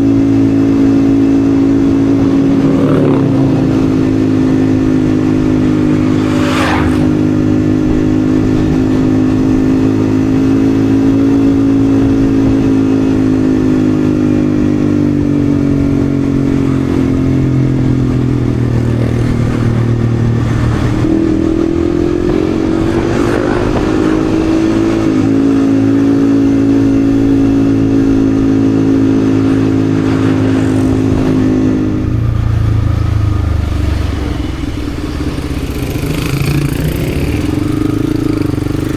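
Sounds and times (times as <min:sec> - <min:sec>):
motorcycle engine cruising: 0:00.0 - 0:38.9
whooshes of passing traffic: 0:00.0 - 0:38.9.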